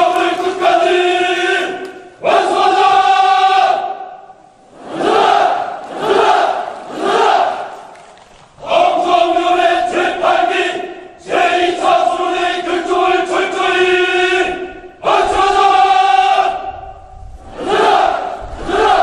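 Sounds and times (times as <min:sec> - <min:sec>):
crowd shouting in unison: 0:00.0 - 0:07.9, 0:08.6 - 0:19.0.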